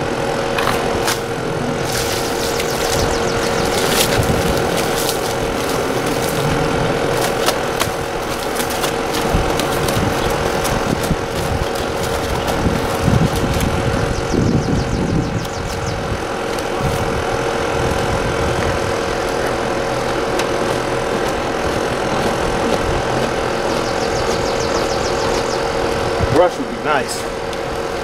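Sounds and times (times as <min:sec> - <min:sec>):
steady engine hum: 0:00.0 - 0:28.0.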